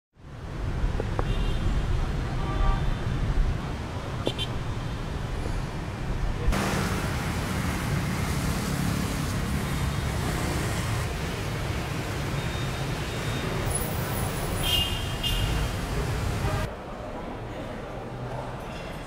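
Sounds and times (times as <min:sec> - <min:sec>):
road traffic passing: 0:00.2 - 0:17.0.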